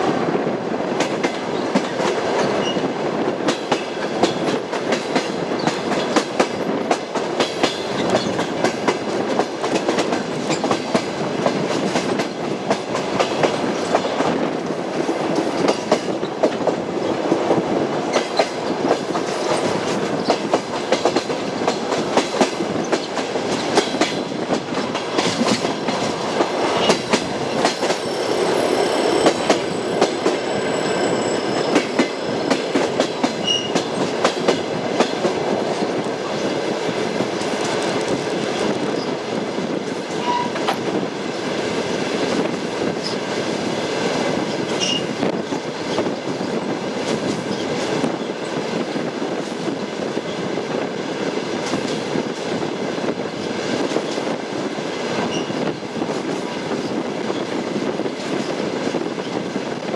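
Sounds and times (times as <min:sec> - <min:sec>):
railway carriage rumble: 0:00.0 - 0:59.9
train wheels clattering: 0:01.0 - 0:49.8.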